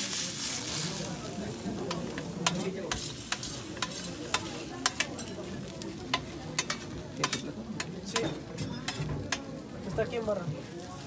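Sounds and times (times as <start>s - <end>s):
larvae sizzling in a pan: 0.0s - 11.0s
spoon stirring in a pan: 0.1s - 11.0s.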